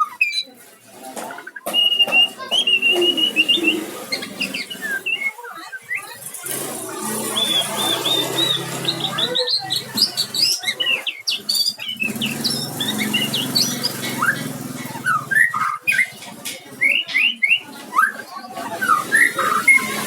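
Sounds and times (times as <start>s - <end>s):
bird singing whistled notes: 0.0s - 0.5s, 1.6s - 6.2s, 7.3s - 16.2s, 16.8s - 20.0s.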